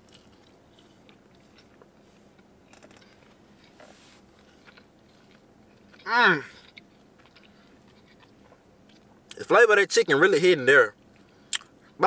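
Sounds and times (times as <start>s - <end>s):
chewing pizza: 0.0s - 12.0s.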